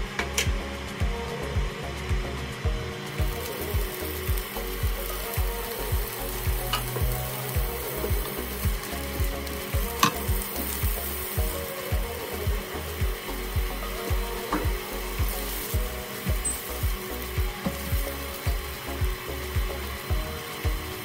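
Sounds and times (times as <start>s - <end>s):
background music with beat and bass: 0.0s - 21.0s.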